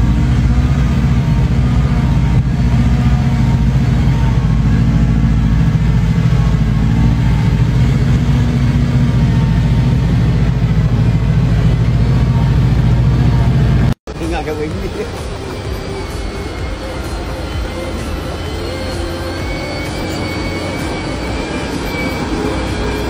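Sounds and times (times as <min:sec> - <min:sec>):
diesel truck engine under load: 0:00.0 - 0:23.0.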